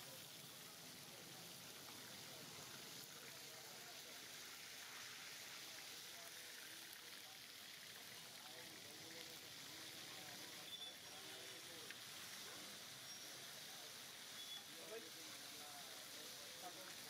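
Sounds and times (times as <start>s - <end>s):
faint oil sizzle: 0.0s - 17.0s.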